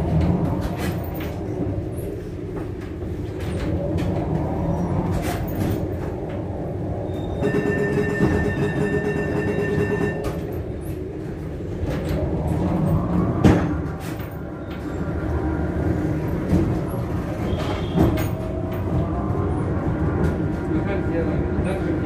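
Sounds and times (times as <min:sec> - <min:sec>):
steady whine: 0:00.0 - 0:21.8
tram rumbling and rattling: 0:00.0 - 0:22.0.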